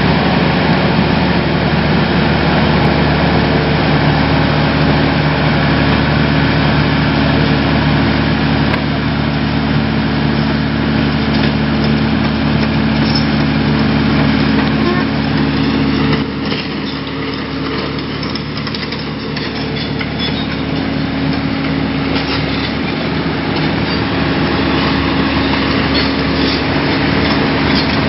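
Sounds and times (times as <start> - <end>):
excavator diesel engine: 0.0 - 28.0
vibratory pile hammer humming: 0.0 - 28.0.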